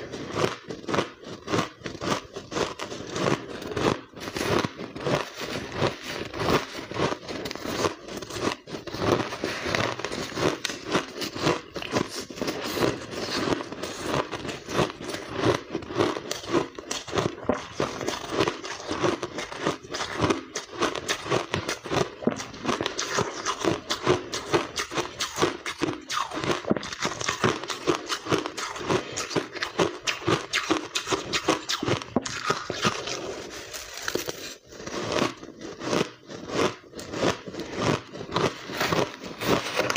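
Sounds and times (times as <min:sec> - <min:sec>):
crunching ice: 0:00.0 - 0:39.9.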